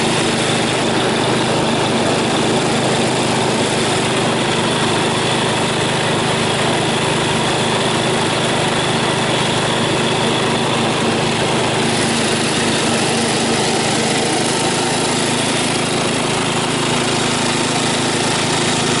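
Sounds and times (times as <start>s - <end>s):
riding mower engine running: 0.0s - 19.0s.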